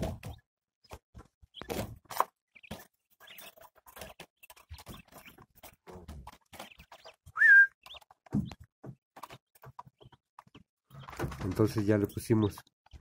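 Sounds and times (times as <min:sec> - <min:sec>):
quail chirp: 0:00.0 - 0:13.0.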